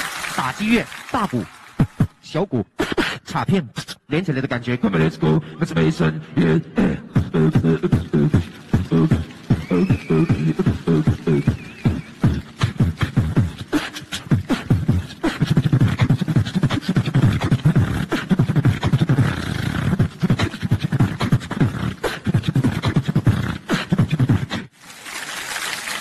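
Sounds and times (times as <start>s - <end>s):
beatboxing into a microphone: 0.4s - 24.8s.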